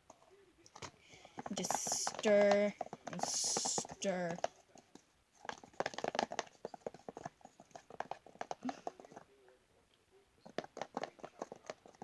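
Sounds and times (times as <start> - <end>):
utensil stirring thick slime: 0.0 - 9.4, 10.4 - 12.0.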